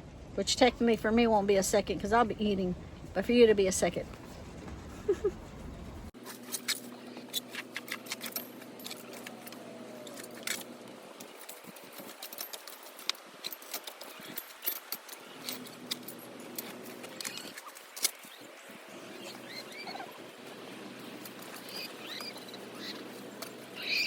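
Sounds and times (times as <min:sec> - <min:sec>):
chickens scratching and pecking: 0:04.0 - 0:24.0.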